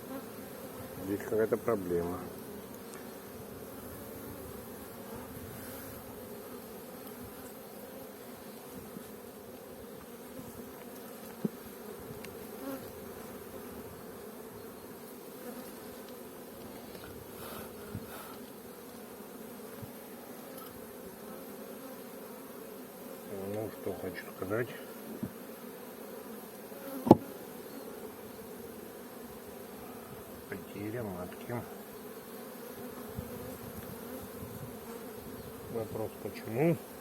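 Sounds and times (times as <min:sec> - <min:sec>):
honeybees humming: 0:00.0 - 0:37.0.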